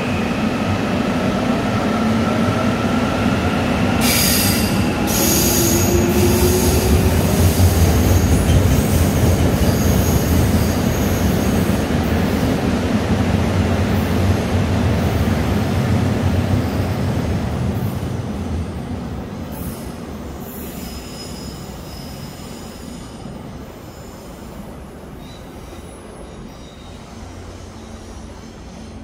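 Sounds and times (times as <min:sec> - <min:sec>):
steady rail noise: 0:00.0 - 0:29.0
train rumbling past: 0:00.0 - 0:29.0.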